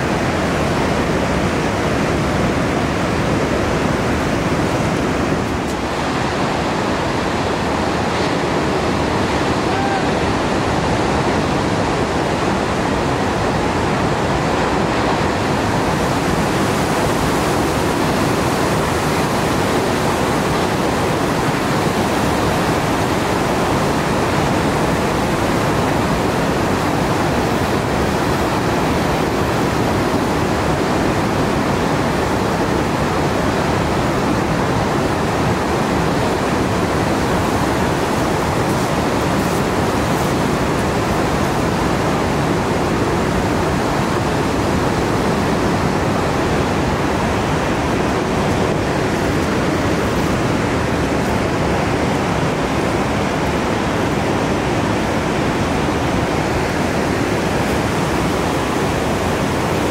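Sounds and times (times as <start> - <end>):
ocean surf roaring: 0.0 - 59.9.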